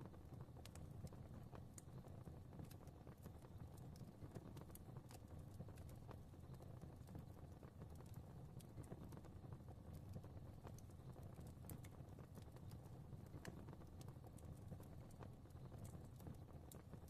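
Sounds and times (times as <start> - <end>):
faint fireplace fire crackling: 0.0 - 17.0.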